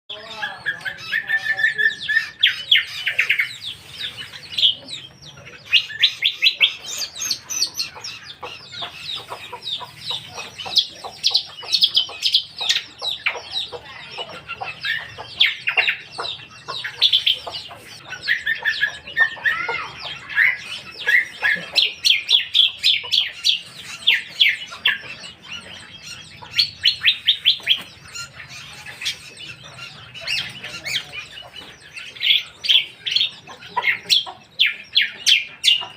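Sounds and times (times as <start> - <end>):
songbird singing trills: 0.1 - 35.9.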